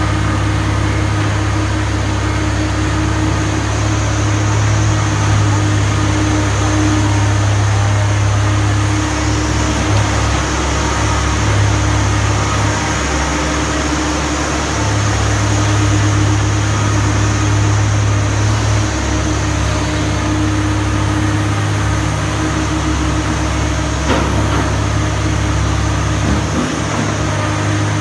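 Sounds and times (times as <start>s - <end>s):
excavator diesel engine humming: 0.0s - 28.0s.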